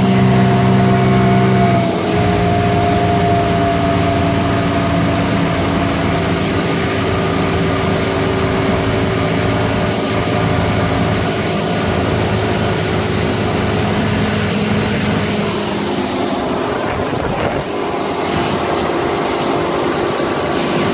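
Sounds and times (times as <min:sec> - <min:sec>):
outboard motor running: 0:00.0 - 0:20.9
rush of wind and water: 0:00.0 - 0:20.9.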